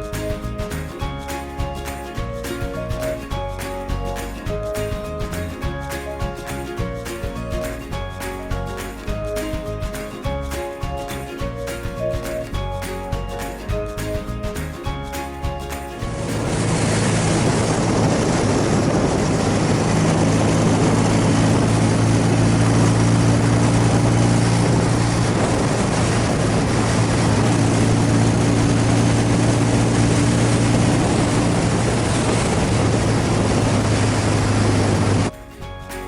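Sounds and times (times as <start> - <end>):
heavy wind rush: 0.0 - 35.3
motorcycle engine cruising: 0.0 - 35.3.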